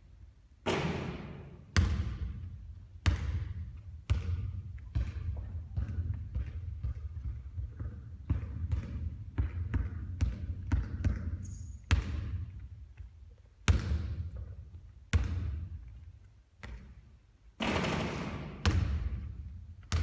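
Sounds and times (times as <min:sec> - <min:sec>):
basketball bouncing on court floor: 0:00.7 - 0:12.8, 0:13.6 - 0:15.9, 0:16.6 - 0:17.0, 0:17.6 - 0:20.0.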